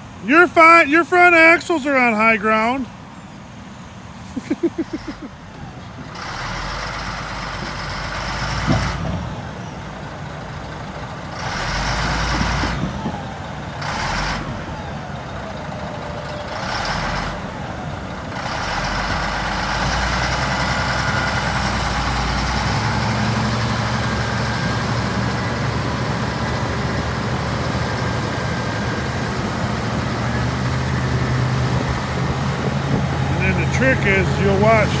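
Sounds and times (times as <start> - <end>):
heavy diesel engine working: 0.0 - 35.0.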